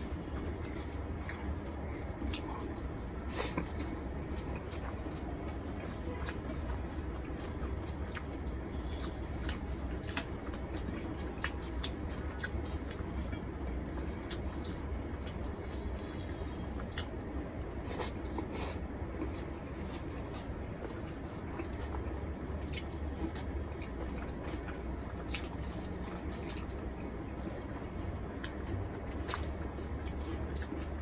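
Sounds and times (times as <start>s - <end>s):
man chewing food: 0.0s - 31.0s
steady low hum: 0.0s - 31.0s.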